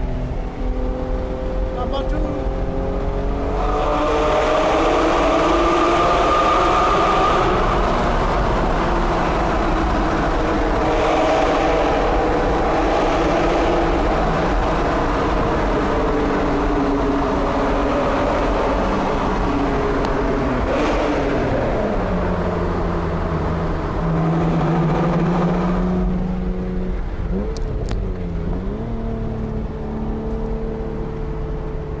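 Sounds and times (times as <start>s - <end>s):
car engine under power: 0.0s - 32.0s.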